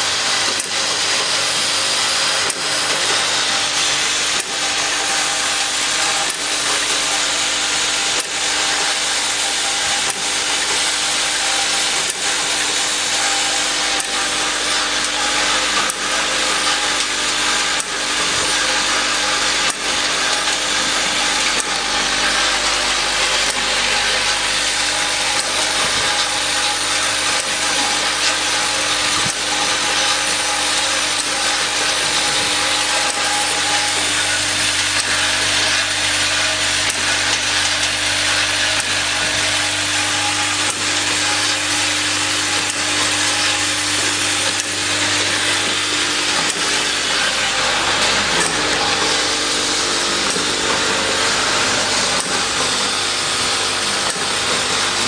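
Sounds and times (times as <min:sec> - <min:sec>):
loud mechanical buzz: 0:00.0 - 0:55.0
steady machine hum: 0:00.0 - 0:55.0.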